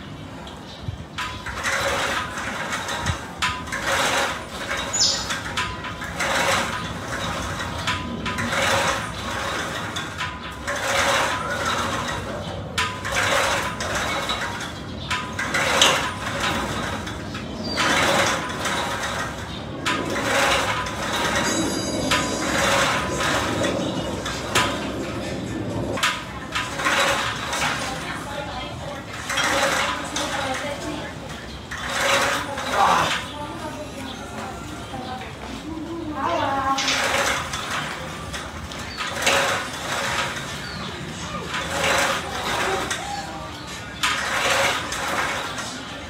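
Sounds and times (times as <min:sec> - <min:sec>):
cable machine pulleys rattling: 0:00.0 - 0:46.0.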